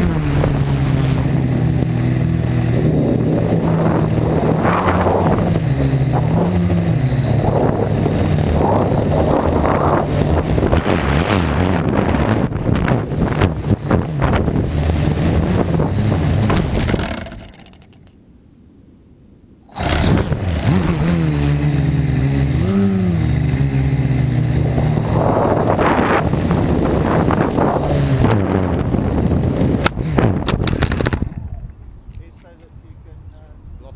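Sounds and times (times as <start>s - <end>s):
wind buffeting microphone: 0.0s - 17.1s, 21.9s - 33.9s
quadcopter motors whining: 0.0s - 17.9s, 19.7s - 31.7s.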